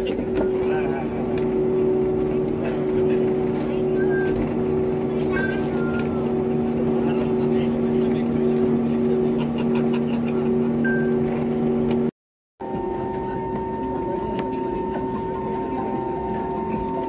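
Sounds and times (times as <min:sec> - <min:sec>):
high engine whine: 0:00.0 - 0:17.0
jet engines humming in cabin: 0:00.0 - 0:17.0.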